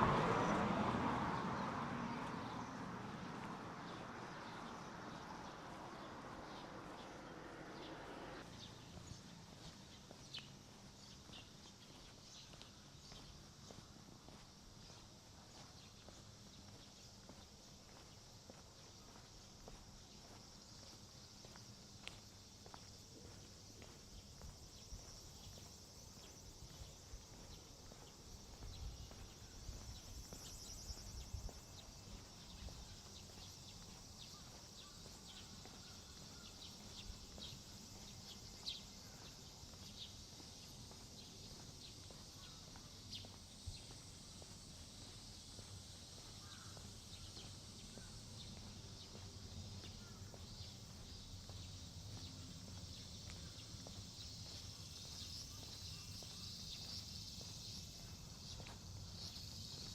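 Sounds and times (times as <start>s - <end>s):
insects chirring: 2.0s - 59.9s
soft footsteps: 8.6s - 59.9s.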